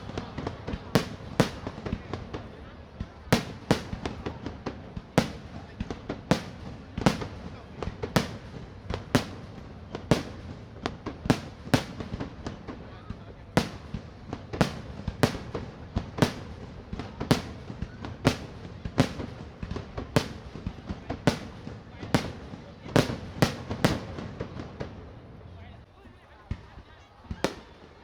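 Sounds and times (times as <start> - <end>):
fireworks bursting bangs: 0.0 - 25.6, 26.4 - 28.0
faint fireworks cracks: 0.0 - 28.0.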